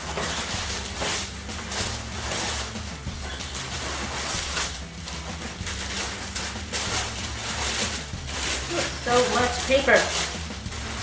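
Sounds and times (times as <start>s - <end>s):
packing paper crinkling: 0.0s - 11.0s.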